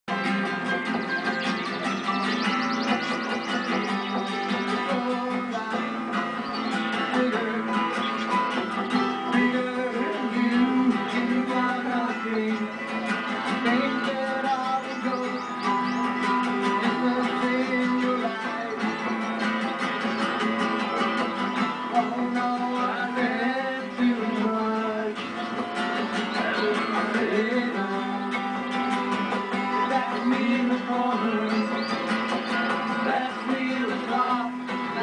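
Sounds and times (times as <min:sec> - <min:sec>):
acoustic guitar strummed: 0:00.1 - 0:35.0
plucked string instrument: 0:00.1 - 0:35.0
man singing: 0:00.2 - 0:19.4, 0:20.8 - 0:35.0.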